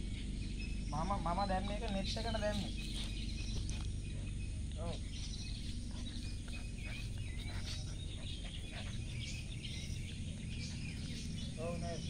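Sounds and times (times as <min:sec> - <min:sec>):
birds chirping and twittering: 0:00.0 - 0:12.0
steady low rumble: 0:00.0 - 0:12.0.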